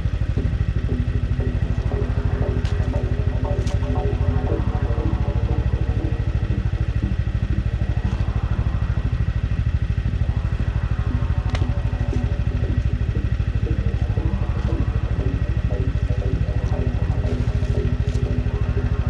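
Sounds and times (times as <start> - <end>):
snowmobile engine idling: 0.0 - 19.0.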